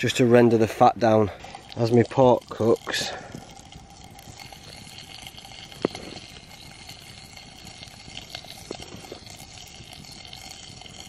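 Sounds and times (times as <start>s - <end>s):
fat sizzling in a pan: 0.0s - 11.0s.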